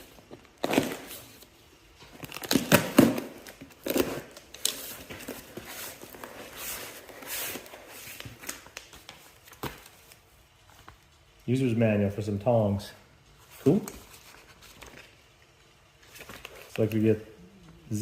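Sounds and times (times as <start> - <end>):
wrapping crinkling and tearing: 0.0 - 11.4, 13.4 - 17.3.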